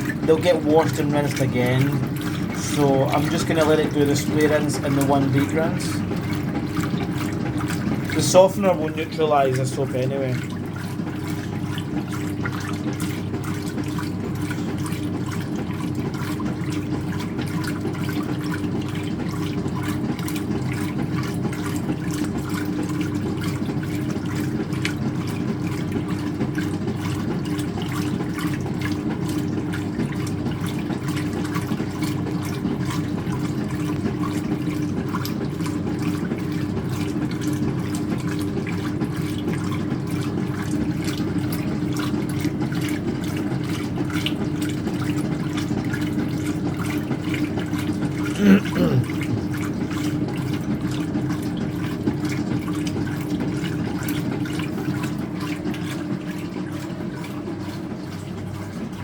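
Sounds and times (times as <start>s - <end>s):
washing machine hum: 0.0s - 59.0s
water running into washing machine: 0.0s - 59.0s.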